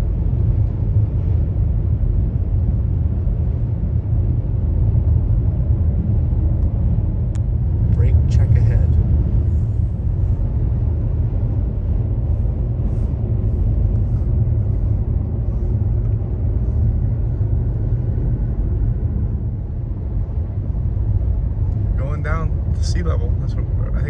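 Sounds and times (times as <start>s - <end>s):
road and tyre noise in car: 0.0s - 24.0s.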